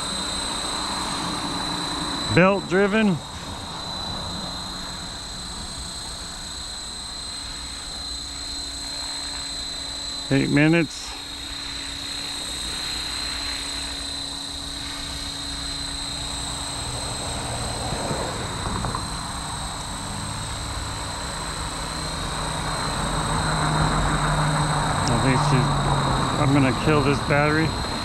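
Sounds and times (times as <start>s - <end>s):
rc helicopter motor whine: 0.0s - 28.0s.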